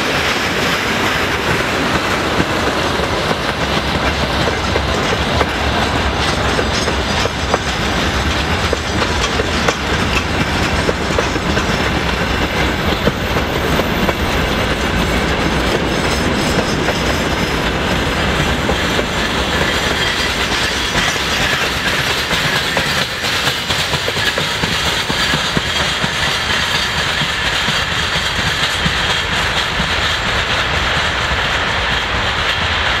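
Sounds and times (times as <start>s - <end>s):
wheels clicking over rail joints: 0.1s - 31.4s
freight wagons running noise: 1.0s - 32.7s.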